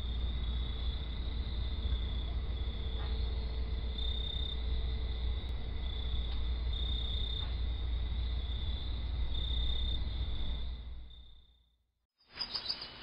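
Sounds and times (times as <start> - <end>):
low constant rumble: 0.0 - 11.5
crickets trilling: 0.0 - 11.6.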